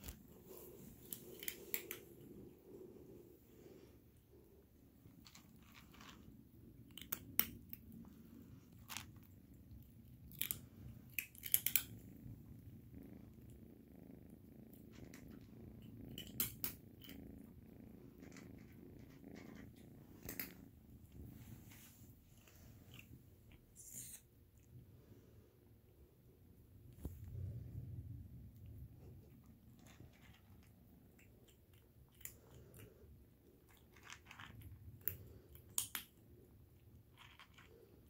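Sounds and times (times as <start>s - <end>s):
kitten purring: 0.0s - 38.0s.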